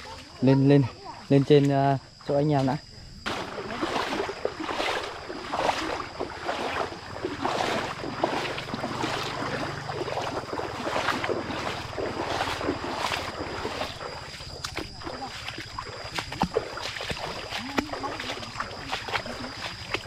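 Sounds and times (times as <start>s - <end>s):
feet wading and splashing in water: 1.4s - 20.0s.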